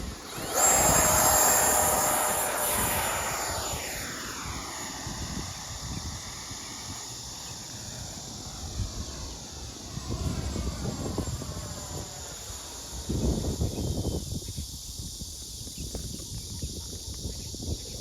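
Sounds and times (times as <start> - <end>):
model jet whine passing: 0.0 - 14.8
wind on microphone: 0.0 - 18.0.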